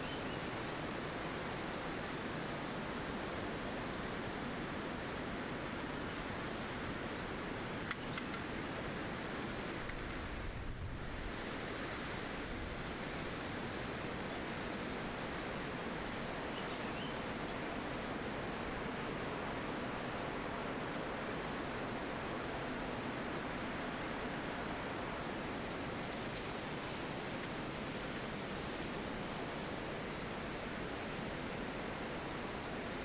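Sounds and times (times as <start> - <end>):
wind rushing through trees: 0.0 - 33.0.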